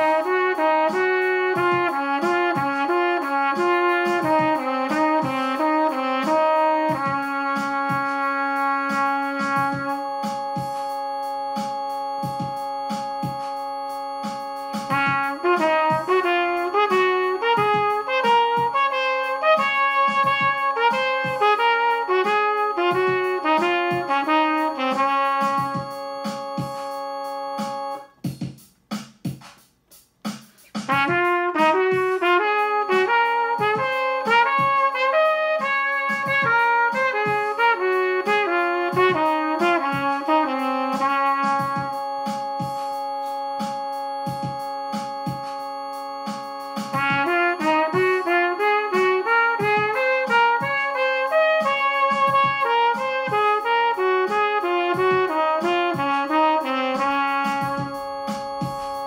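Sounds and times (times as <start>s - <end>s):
held keyboard chord: 0.0s - 28.2s, 30.8s - 59.0s
trumpet playing scale: 0.0s - 28.4s, 30.6s - 59.0s
steady click beat: 0.0s - 59.0s.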